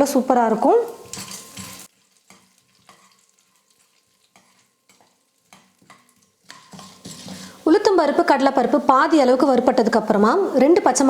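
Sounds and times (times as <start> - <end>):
lentils sizzling in oil: 0.0 - 11.0
spoon scraping a pan: 0.8 - 10.0.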